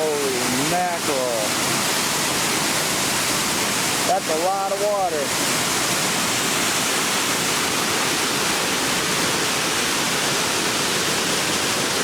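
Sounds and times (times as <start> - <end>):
water rushing out of a dam: 0.0 - 12.0.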